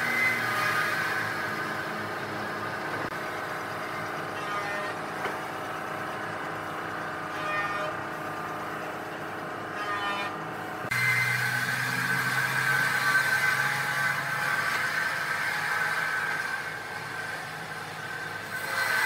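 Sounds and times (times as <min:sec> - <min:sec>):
high machine whine: 0:00.0 - 0:19.0
woodworking machinery humming: 0:00.0 - 0:19.0.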